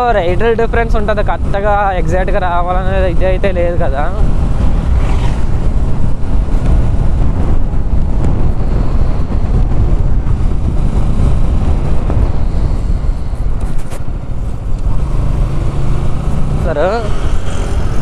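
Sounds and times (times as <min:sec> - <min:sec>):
motorcycle engine rumble: 0:00.0 - 0:18.0
road noise: 0:00.0 - 0:18.0
wind buffeting microphone: 0:00.0 - 0:18.0.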